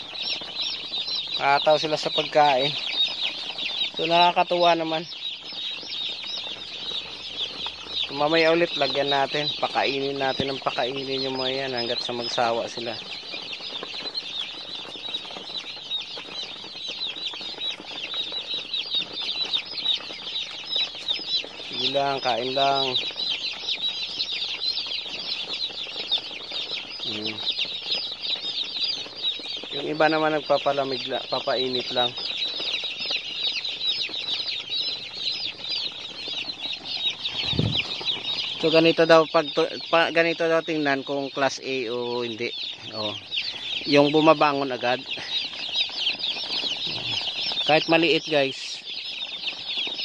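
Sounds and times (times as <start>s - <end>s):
chicks peeping: 0.0s - 50.0s.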